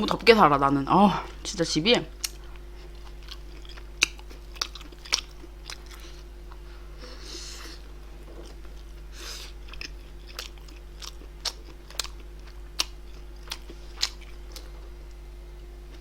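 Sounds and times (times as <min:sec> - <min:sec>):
person chewing food: 0:02.1 - 0:16.0.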